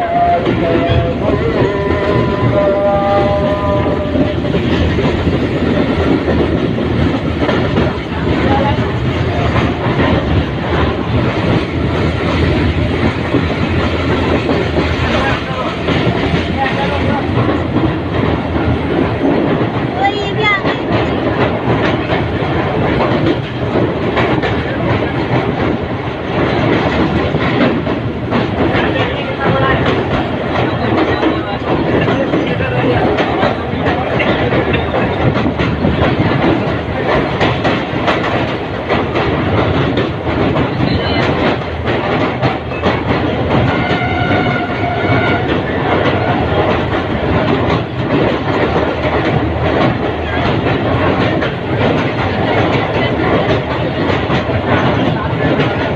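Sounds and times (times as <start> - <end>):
train rumble: 0.0 - 55.9
train wheels clattering over rail joints: 0.0 - 55.9.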